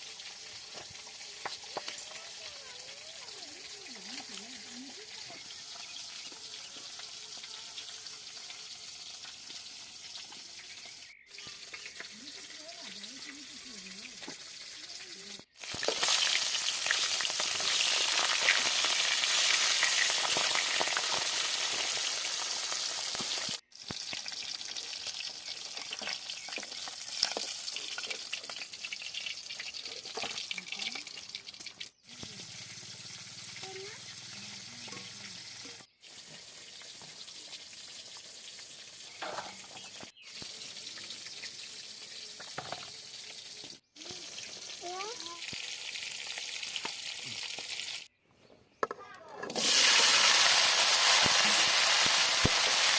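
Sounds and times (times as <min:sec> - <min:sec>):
food sizzling in hot oil: 0:00.0 - 0:48.1, 0:49.5 - 0:52.9.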